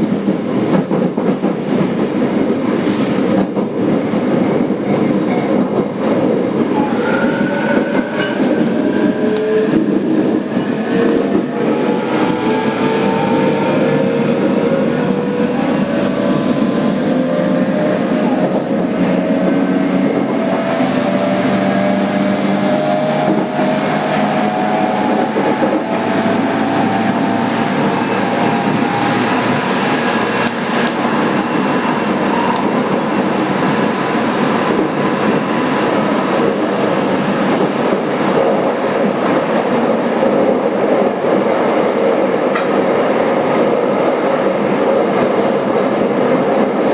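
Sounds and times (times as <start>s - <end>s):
rail and wheel rumble: 0.0s - 46.9s.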